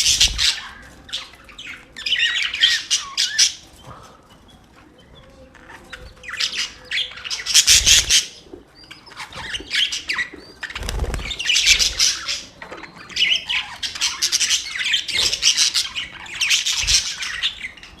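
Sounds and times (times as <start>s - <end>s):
budgerigars chattering and chirping: 0.0s - 18.0s.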